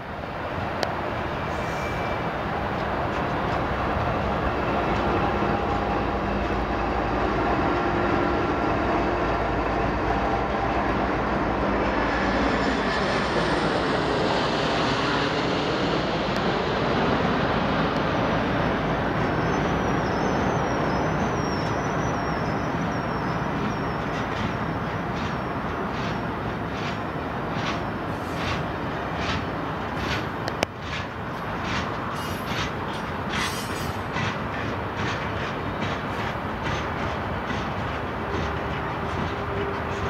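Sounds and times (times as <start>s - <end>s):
diesel locomotive passing: 0.0s - 40.0s
train cars rumbling on rails: 0.0s - 40.0s.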